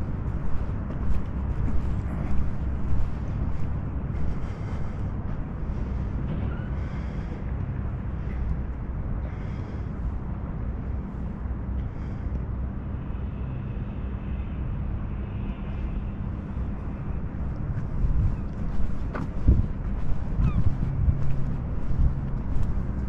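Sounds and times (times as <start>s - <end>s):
low engine drone: 0.0s - 23.0s.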